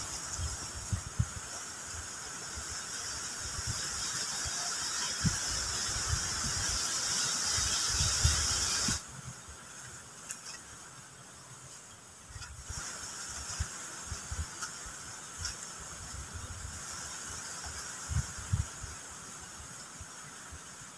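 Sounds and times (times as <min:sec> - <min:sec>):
cicada-like insect drone: 0:00.0 - 0:20.9.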